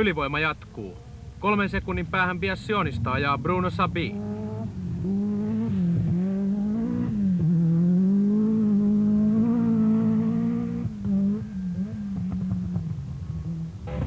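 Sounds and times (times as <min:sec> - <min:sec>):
rally car engine at high revs: 0:01.9 - 0:14.0.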